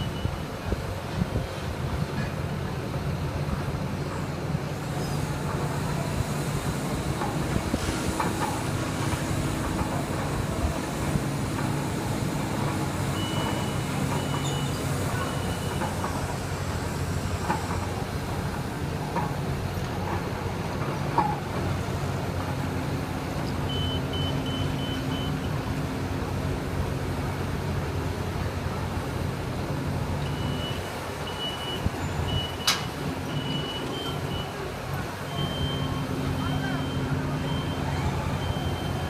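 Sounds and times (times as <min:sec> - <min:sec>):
diesel engine rumbling: 0:00.0 - 0:39.0.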